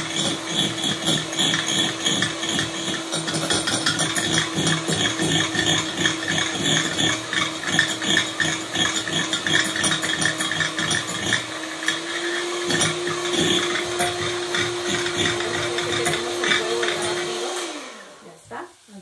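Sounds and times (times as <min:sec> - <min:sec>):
electric hand mixer whipping eggs: 0:00.0 - 0:18.5.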